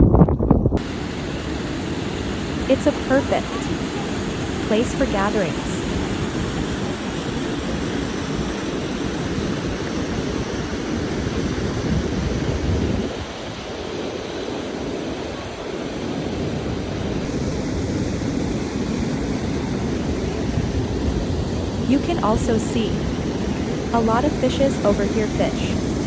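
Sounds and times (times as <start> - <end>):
water rushing: 0.8 - 26.0.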